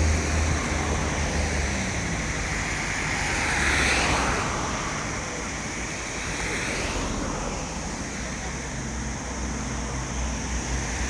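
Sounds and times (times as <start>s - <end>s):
outdoor rushing noise with rumble: 0.0s - 11.0s.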